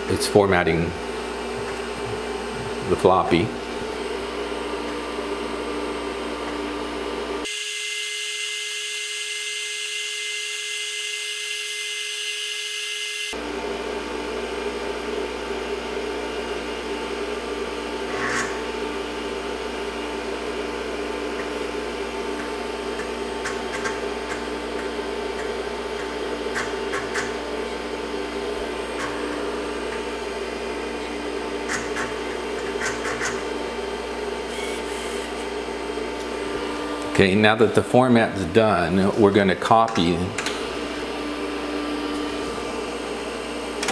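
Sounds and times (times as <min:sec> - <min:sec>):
computer fan and drives whirring: 0:00.0 - 0:07.6, 0:13.3 - 0:43.9.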